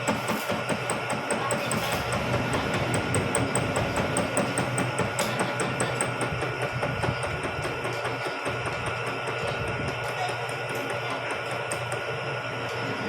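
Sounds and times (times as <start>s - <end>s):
motor hum: 0.7s - 13.0s.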